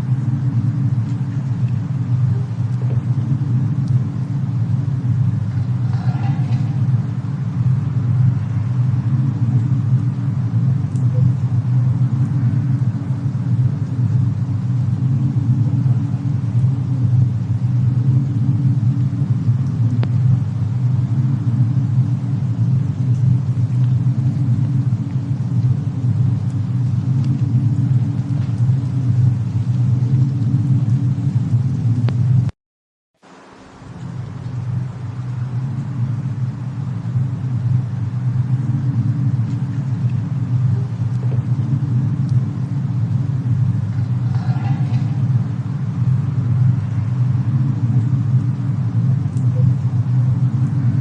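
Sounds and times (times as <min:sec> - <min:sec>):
faint fire crackles: 0:00.0 - 0:32.5, 0:33.2 - 0:51.0
fireplace and snowstorm rumble: 0:00.0 - 0:32.6, 0:33.2 - 0:51.0.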